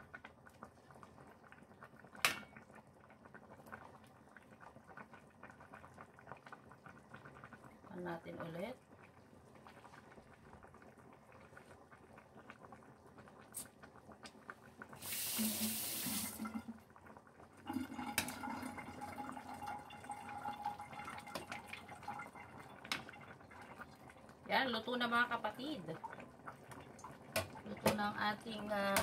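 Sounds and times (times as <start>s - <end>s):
broth bubbling in a pot: 0.0s - 29.0s.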